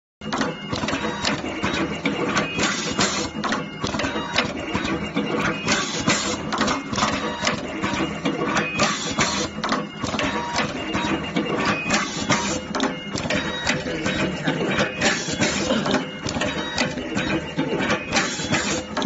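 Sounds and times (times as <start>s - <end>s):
wire processing machine clattering: 0.2s - 19.0s.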